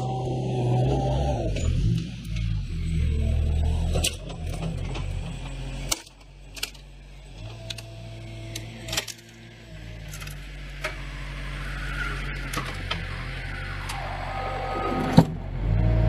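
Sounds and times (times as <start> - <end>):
wheel loader engine running: 0.0 - 16.0.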